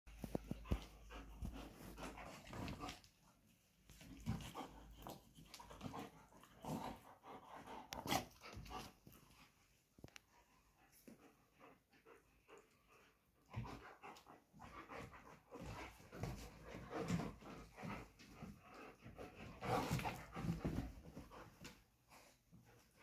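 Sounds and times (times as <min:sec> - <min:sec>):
dogs panting: 0:00.2 - 0:09.6, 0:10.6 - 0:23.0.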